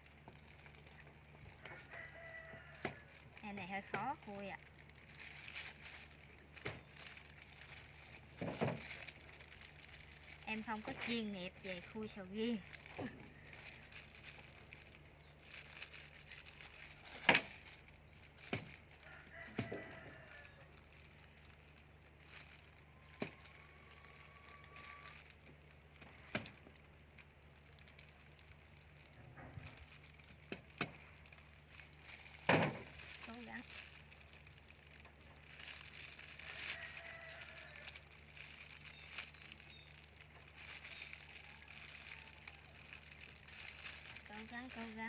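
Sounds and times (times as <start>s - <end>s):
durian husk cracking: 0.0s - 45.0s.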